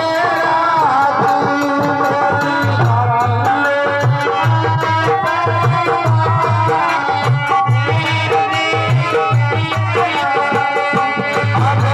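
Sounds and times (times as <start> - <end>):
rhythmic drum beat: 0.0 - 11.9.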